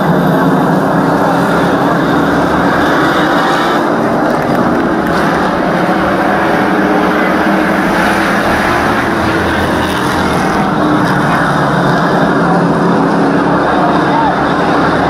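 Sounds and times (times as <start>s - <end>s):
race car engines running: 0.0s - 15.0s.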